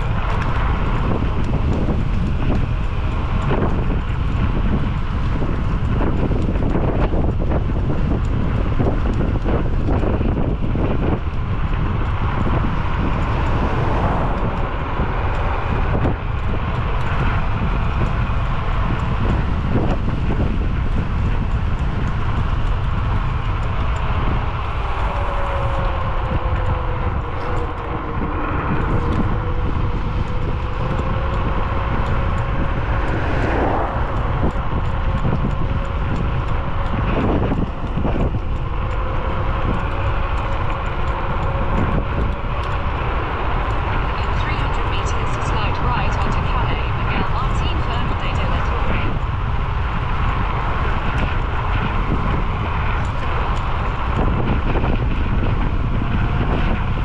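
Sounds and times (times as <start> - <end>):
electric scooter whine: 0.0 - 57.0
wind rushing over microphone: 0.0 - 57.0.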